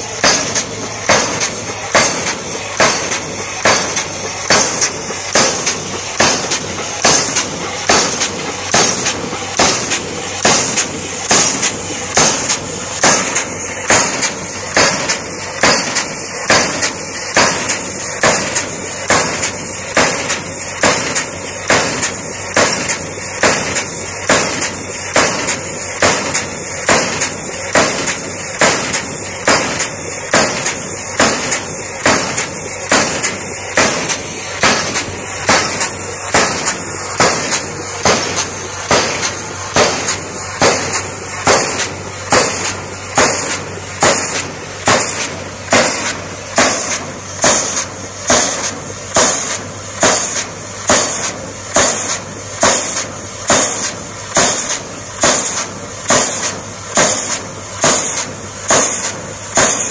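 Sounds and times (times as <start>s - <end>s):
pile driver hammer striking: 0.0s - 59.9s.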